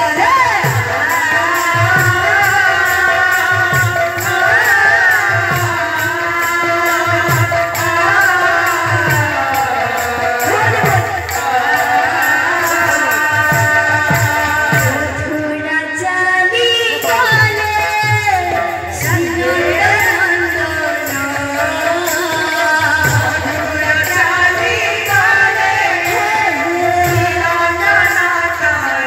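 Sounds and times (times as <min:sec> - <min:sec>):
hand drum rhythm: 0:00.0 - 0:15.4, 0:17.0 - 0:29.0
woman singing into a microphone: 0:00.0 - 0:29.0.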